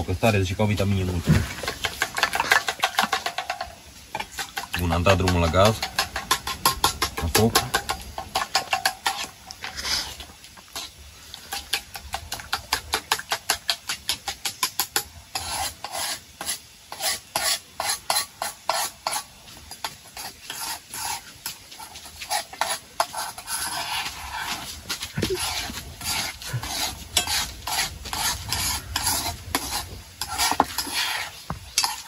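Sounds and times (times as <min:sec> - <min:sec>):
eggs sizzling: 0:00.2 - 0:32.0
spoon scraping a frying pan: 0:01.6 - 0:32.0.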